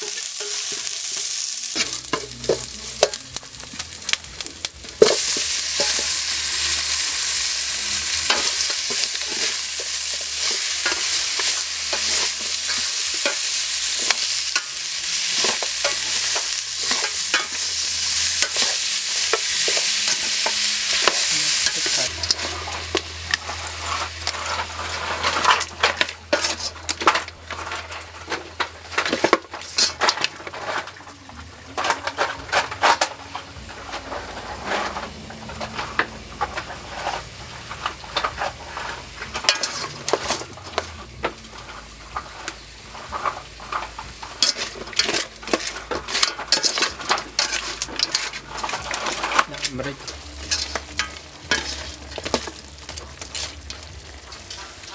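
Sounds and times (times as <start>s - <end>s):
food sizzling: 0.0s - 54.9s
utensil scraping metal pan: 0.0s - 54.9s.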